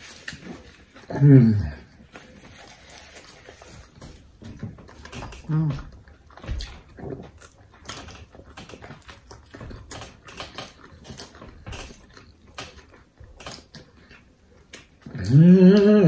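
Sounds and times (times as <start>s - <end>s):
people chewing with lip smacks: 0.0s - 16.0s.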